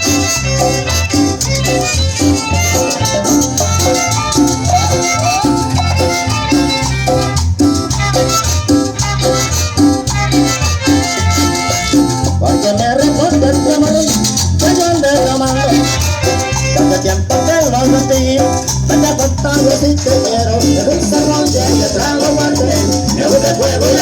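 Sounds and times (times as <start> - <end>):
band playing latin dance music: 0.0 - 24.0.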